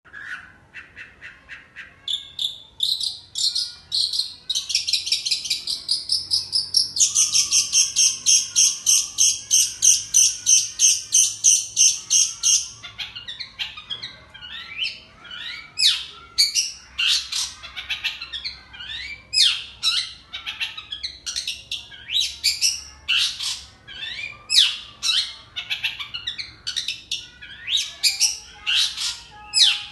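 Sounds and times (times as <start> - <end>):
bird singing high chirps: 0.1 - 29.9.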